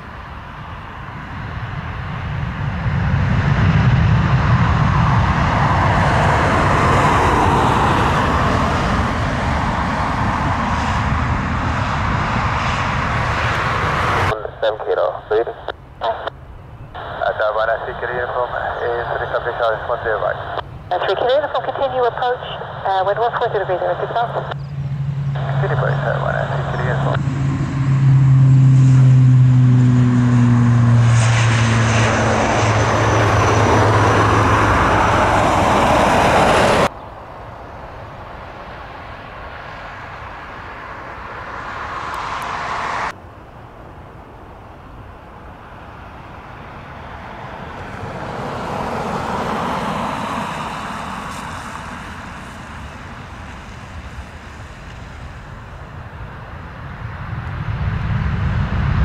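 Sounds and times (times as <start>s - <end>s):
jet rolling down runway: 0.0s - 59.0s
turboprop engines droning: 0.0s - 59.0s.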